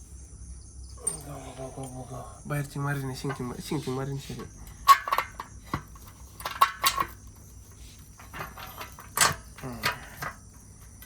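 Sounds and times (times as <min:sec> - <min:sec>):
metallic clinks of nuts and bolts: 0:01.0 - 0:11.0.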